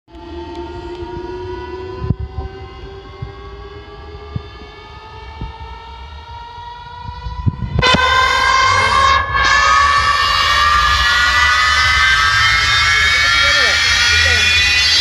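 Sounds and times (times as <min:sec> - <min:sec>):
siren-like rising tone: 0:00.1 - 0:15.0.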